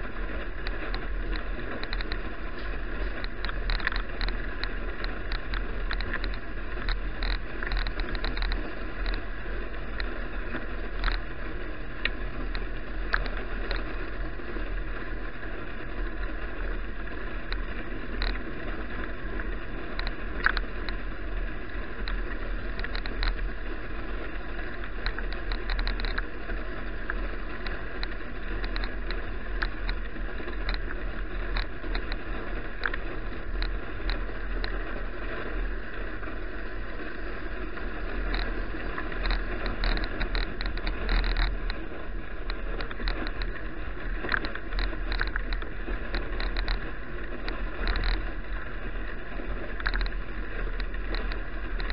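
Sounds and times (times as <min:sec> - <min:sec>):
bicycle clicks and rattles: 0:00.0 - 0:51.9
bicycle tyre road noise: 0:00.0 - 0:51.9.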